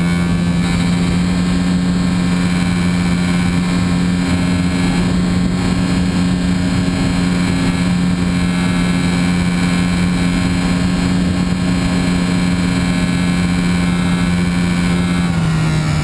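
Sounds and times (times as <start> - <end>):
model airplane motor and propeller: 0.0 - 16.0.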